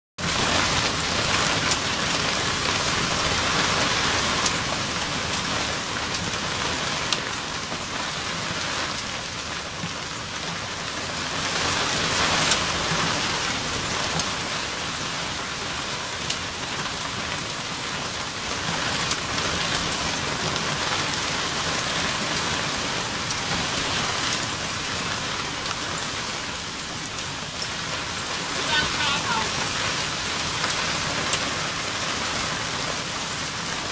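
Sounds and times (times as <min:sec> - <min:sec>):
hailstones ticking: 0:00.2 - 0:33.9
heavy rain hiss: 0:00.2 - 0:33.9.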